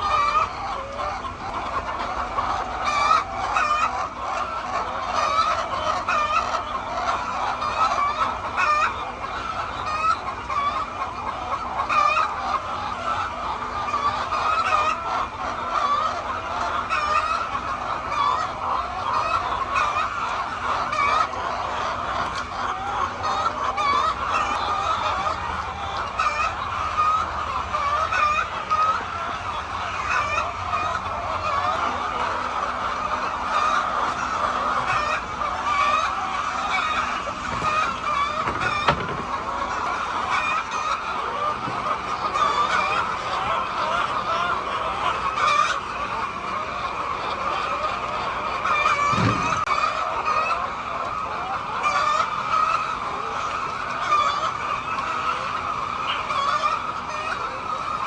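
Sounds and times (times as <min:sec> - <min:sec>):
hens clucking and calling: 0:00.0 - 0:58.0.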